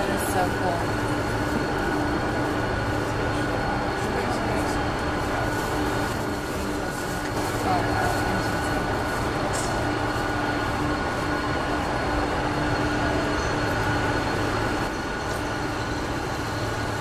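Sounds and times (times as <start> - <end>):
jet engines roaring and whining: 0.0 - 17.0.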